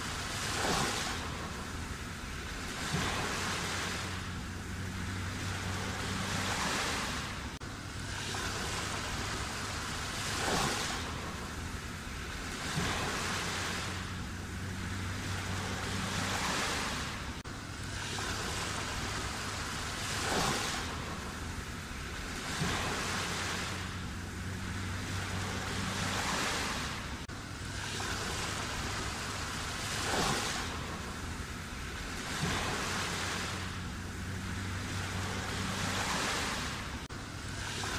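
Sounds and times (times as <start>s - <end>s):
sea waves washing onto shore: 0.0s - 37.9s.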